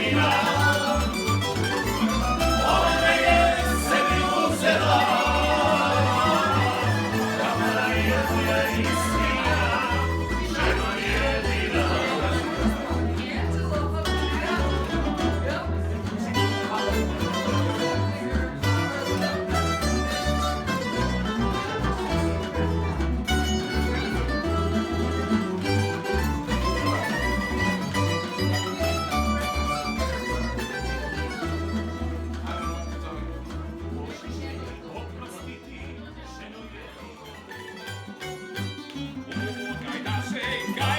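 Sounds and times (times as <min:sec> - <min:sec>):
plucked tamburitza strings: 0:00.0 - 0:35.8
pulsing bass line: 0:00.0 - 0:36.2.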